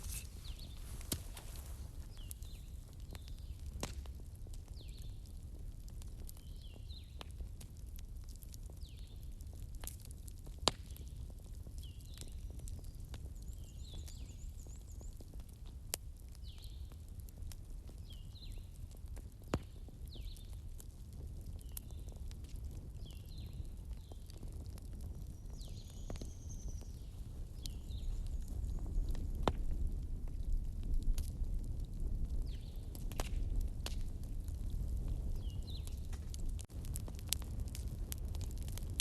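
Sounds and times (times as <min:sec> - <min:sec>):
fire crackling and popping: 0:00.0 - 0:39.0
low fire rumble: 0:00.0 - 0:39.0.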